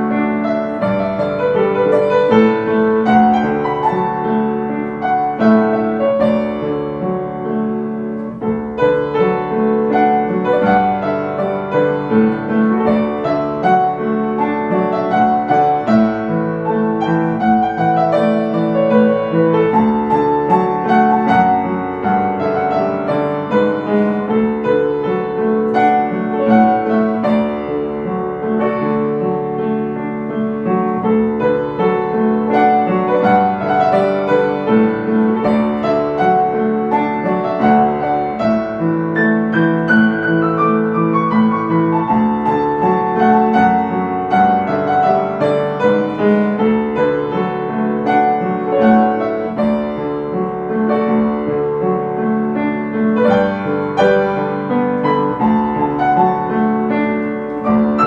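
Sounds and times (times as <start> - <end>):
solo upright piano melody: 0.0 - 58.0.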